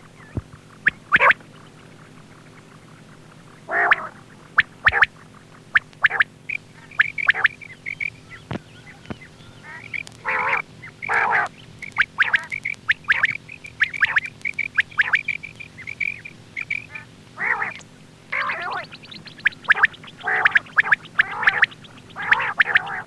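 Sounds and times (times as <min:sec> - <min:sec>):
harsh rasping bird calls: 0:00.0 - 0:23.0
low hum: 0:00.0 - 0:23.0
quail chirping: 0:00.1 - 0:23.0.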